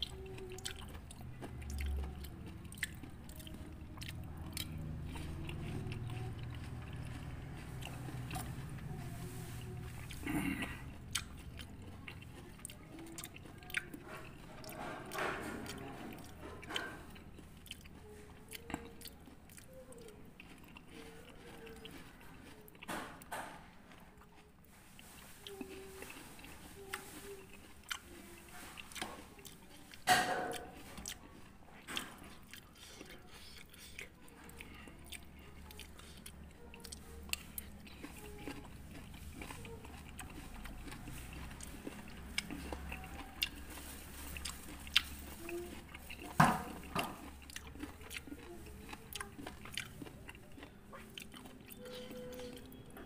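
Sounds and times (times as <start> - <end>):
chewing and biting fruit: 0.0 - 53.0.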